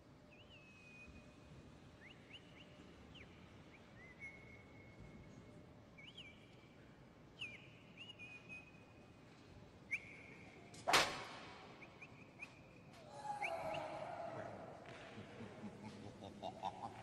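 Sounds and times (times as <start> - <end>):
quiet hall background: 0.0 - 17.0.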